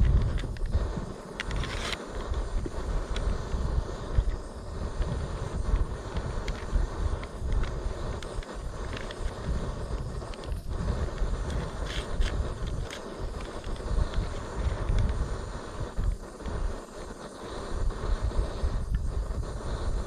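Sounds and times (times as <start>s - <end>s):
faint clicks and rustles: 0.0s - 17.2s
wind buffeting microphone: 0.0s - 20.0s.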